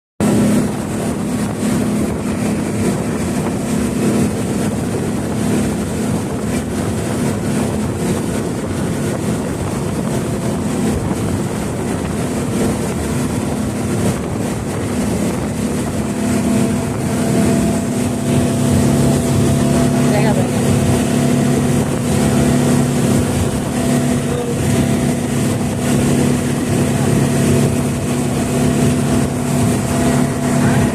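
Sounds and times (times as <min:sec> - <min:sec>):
rushing water: 0:00.2 - 0:30.9
second lower engine hum: 0:00.2 - 0:30.9
speedboat engine running: 0:00.2 - 0:30.9.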